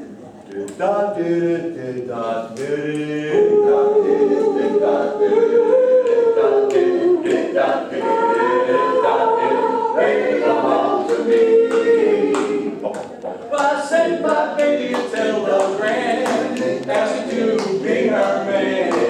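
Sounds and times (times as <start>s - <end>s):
male a cappella group singing: 0.5s - 19.0s.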